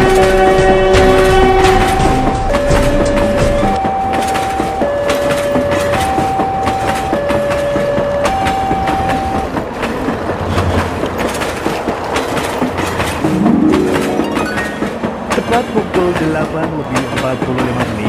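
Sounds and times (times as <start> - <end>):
train wheels clicking over rail joints: 0.0 - 13.9, 14.5 - 18.0.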